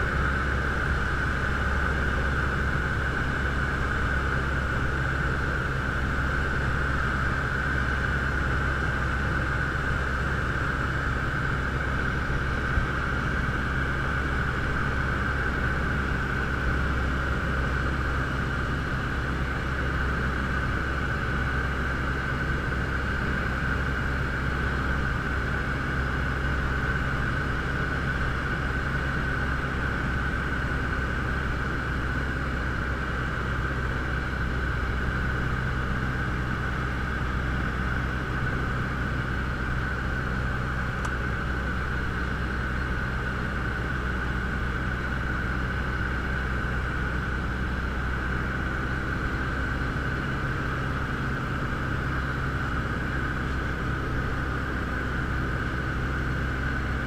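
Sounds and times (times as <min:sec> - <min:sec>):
light aircraft engine droning: 0:00.0 - 0:57.0.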